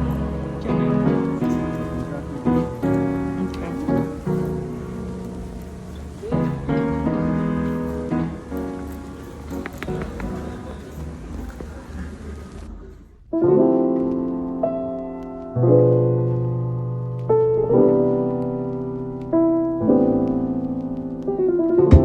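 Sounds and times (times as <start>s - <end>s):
slow piano chords: 0.0s - 12.1s, 13.2s - 22.0s.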